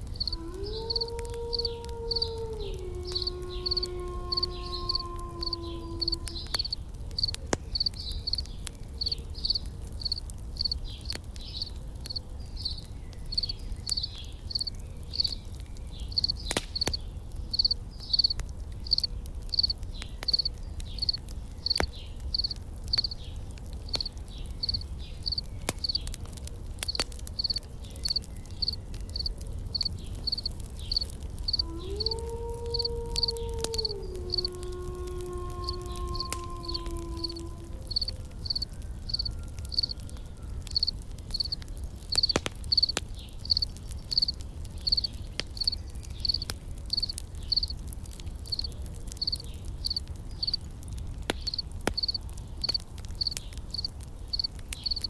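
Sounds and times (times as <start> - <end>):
campfire crackling: 0.0 - 55.0
insects chirping: 0.1 - 8.4, 9.0 - 11.7, 12.6 - 15.4, 16.1 - 23.2, 23.8 - 26.0, 26.9 - 40.0, 40.7 - 41.6, 42.2 - 47.8, 48.5 - 50.6, 51.4 - 55.0.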